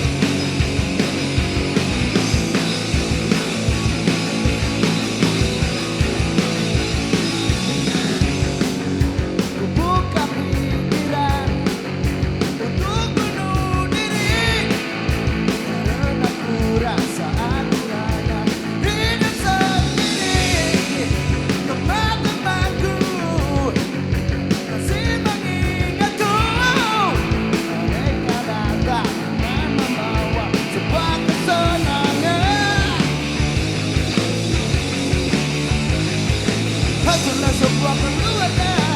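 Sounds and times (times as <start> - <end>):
drums pounding fast beat: 0.0 - 38.9
rock band playing live: 0.0 - 38.9.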